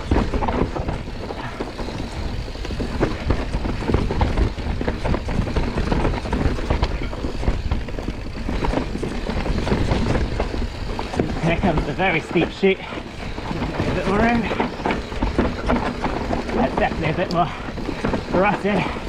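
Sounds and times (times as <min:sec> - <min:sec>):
bike rattles and clicks: 0:00.0 - 0:19.0
bike tyres rumbling on dirt: 0:00.0 - 0:19.0.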